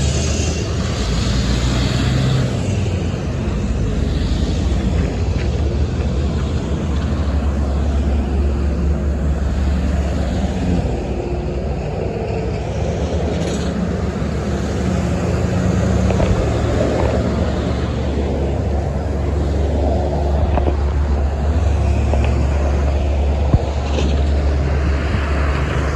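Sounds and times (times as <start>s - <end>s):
vehicle engine and road rumble: 0.0s - 25.9s.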